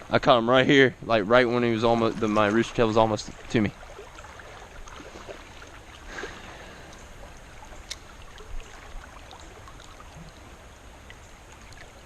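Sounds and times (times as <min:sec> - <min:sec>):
creek water running over rocks: 0:00.0 - 0:12.0.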